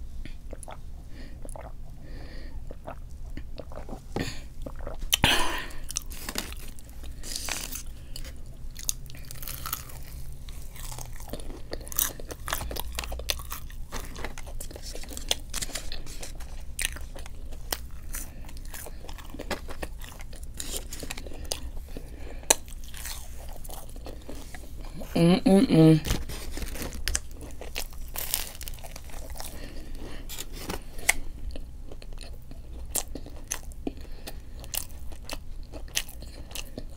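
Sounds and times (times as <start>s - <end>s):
person chewing and crunching food: 0.2s - 25.2s, 26.0s - 36.9s.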